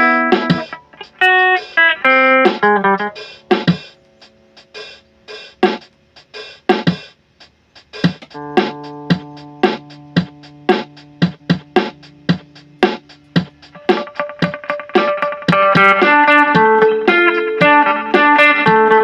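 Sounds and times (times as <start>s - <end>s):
electric guitar picked notes: 0.0s - 4.6s, 8.3s - 19.0s.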